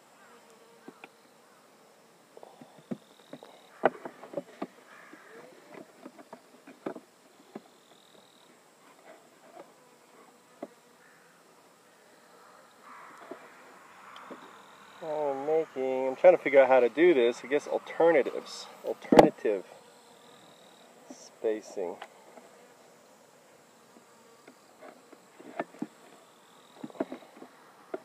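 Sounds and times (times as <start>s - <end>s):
flying insect buzzing: 0.0s - 28.0s.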